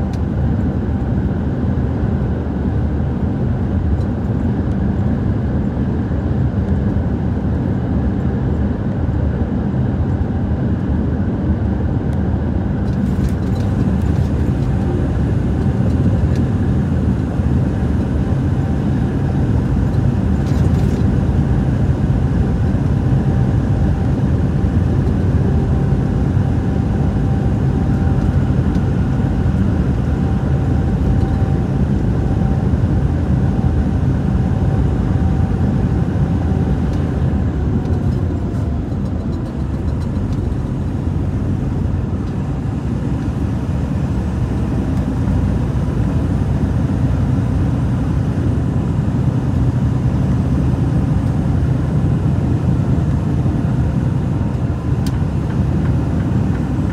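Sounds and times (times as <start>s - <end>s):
vehicle engine and road noise: 0.0s - 56.9s.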